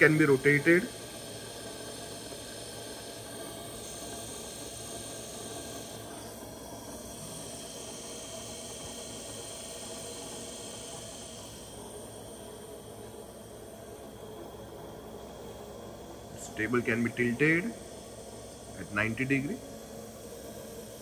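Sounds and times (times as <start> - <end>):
grinder spindle humming and hissing: 0.0 - 21.0.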